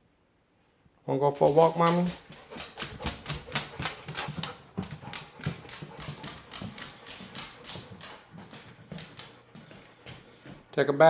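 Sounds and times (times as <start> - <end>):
dog toenails clicking on hard floor: 1.4 - 10.7.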